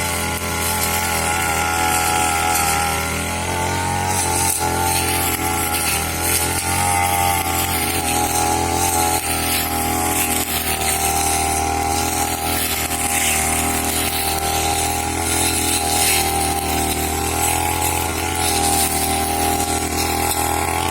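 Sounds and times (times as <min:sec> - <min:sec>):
brush cutter engine running: 0:00.0 - 0:20.9.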